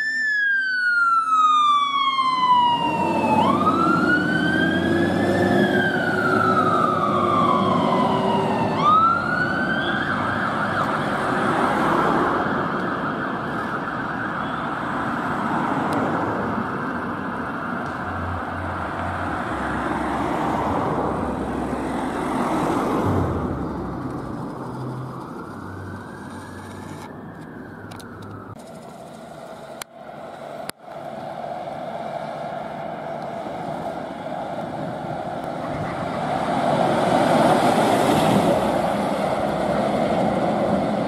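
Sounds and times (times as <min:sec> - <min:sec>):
fire engine siren wailing: 0:00.0 - 0:28.6, 0:29.5 - 0:41.0
vehicle running noise: 0:02.0 - 0:41.0.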